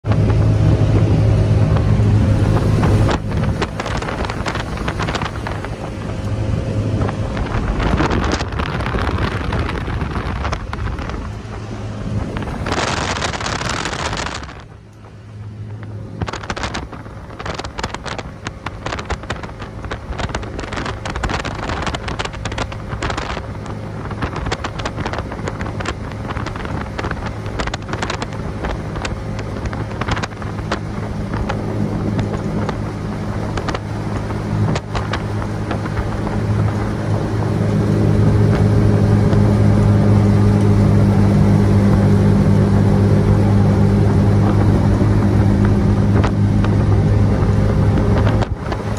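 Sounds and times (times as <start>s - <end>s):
speedboat engine drone: 0.0s - 48.9s
wind on microphone: 0.0s - 48.9s.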